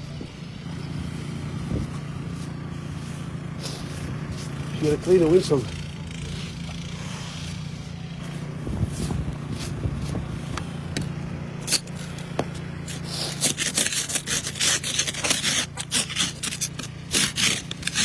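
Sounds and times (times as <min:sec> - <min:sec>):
steady low hum: 0:00.0 - 0:18.0
ice scraper scraping windshield: 0:01.7 - 0:18.0.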